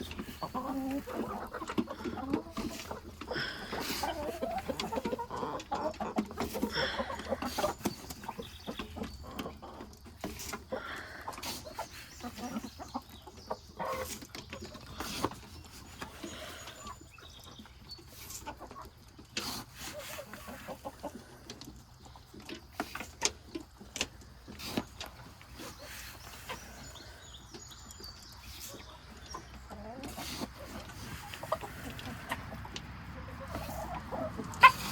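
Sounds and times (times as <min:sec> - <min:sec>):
hens clucking: 0:00.0 - 0:34.9.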